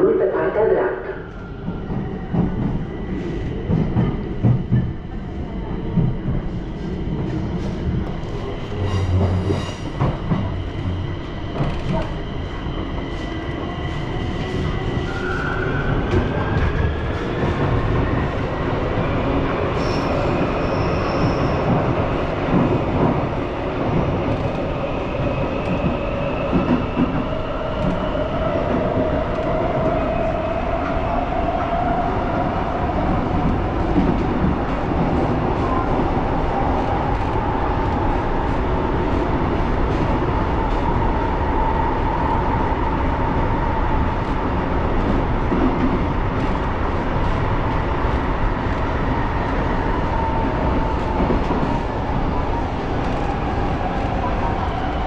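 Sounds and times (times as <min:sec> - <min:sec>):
train wheels rumbling on rails: 0:01.3 - 0:55.0.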